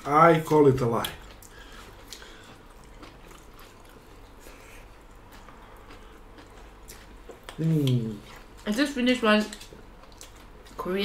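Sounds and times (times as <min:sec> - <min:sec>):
people chewing: 0:00.2 - 0:11.0.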